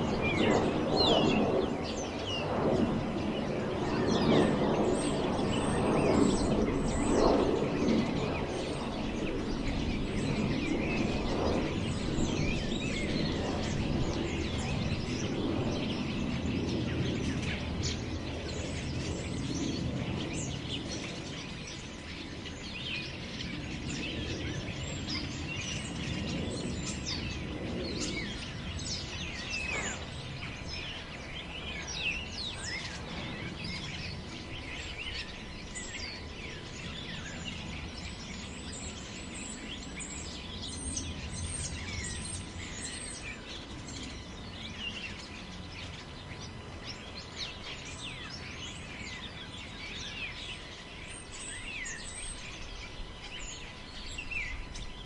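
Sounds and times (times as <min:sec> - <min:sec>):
wind in a forest: 0:00.0 - 0:55.0
birds chirping and calling: 0:03.2 - 0:55.0.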